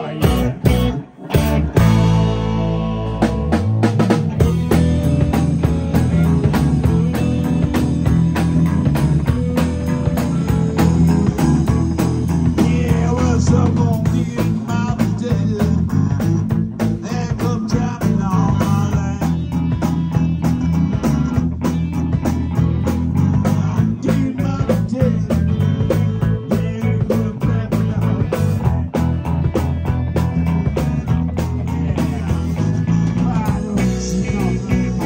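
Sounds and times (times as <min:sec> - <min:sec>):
distorted electric guitars: 0:00.0 - 0:35.0
drum kit beat: 0:00.0 - 0:35.0.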